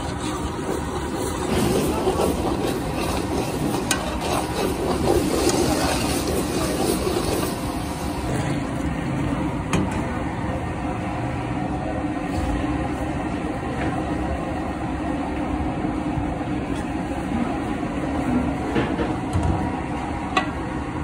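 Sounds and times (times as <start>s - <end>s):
food bubbling in pot: 0.0s - 21.0s.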